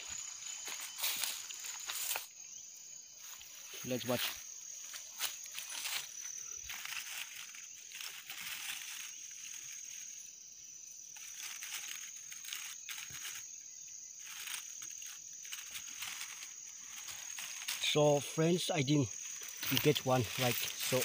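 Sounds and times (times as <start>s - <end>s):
insects chirring: 0.0s - 21.0s
leaves and brush rustling: 0.0s - 21.0s.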